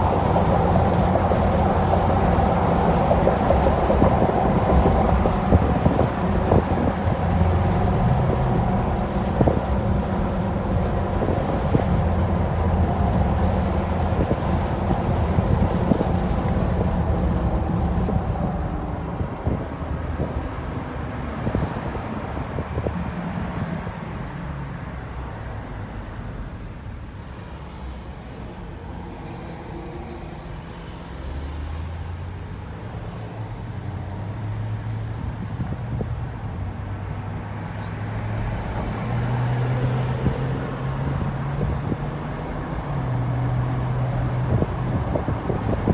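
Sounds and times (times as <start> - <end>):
wind noise: 0.0 - 24.4, 32.5 - 45.9
tire rumble on pavement: 0.0 - 45.9.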